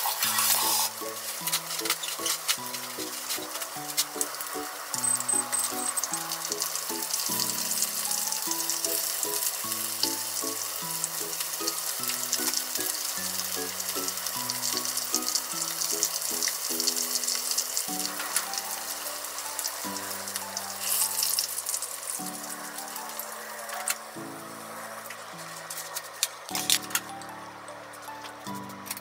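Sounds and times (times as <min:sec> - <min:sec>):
chicken frying in oil: 0:00.0 - 0:26.9
light background music: 0:00.0 - 0:29.0.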